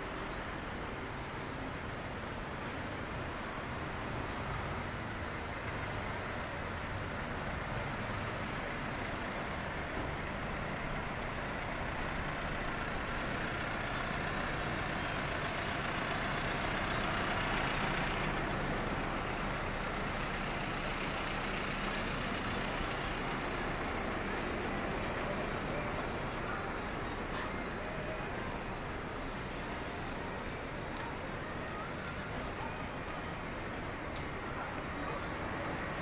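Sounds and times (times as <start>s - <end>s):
street traffic engines idling: 0.0s - 36.0s.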